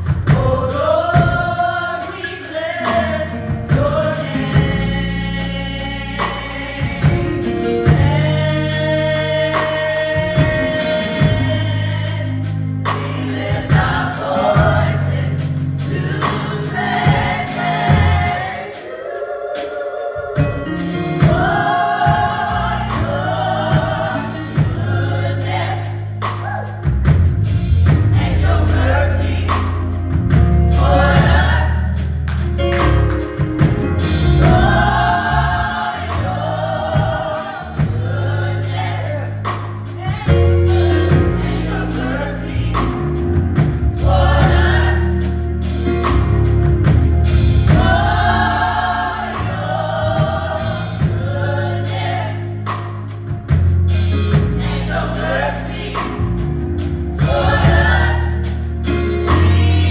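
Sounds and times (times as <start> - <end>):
gospel choir singing with band: 0.0 - 59.9.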